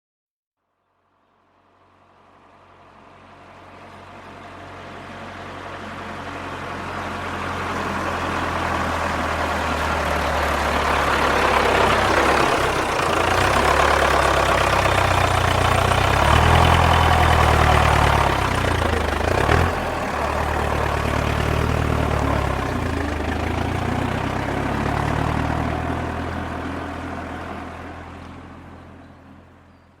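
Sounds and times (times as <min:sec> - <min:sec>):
tractor engine passing by: 0:01.2 - 0:30.0.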